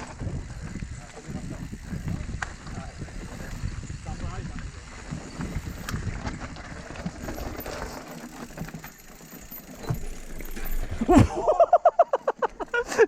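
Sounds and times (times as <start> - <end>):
mountain bike rattling: 0.0 - 13.0.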